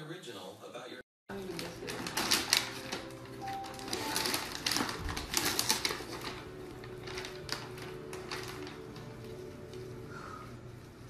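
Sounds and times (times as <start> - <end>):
tissue paper crinkling: 1.3 - 11.0.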